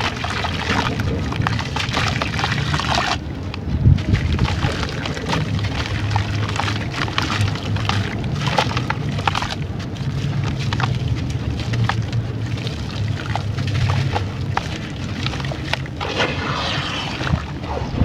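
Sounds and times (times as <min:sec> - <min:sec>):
low rumble: 0:00.0 - 0:18.0
sand-clay crackling in water: 0:00.0 - 0:18.0.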